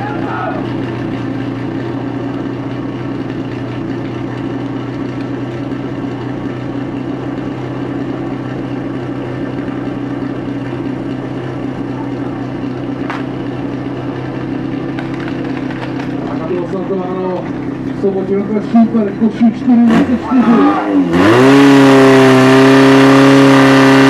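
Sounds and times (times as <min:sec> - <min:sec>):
pump engine droning: 0:00.0 - 0:24.0.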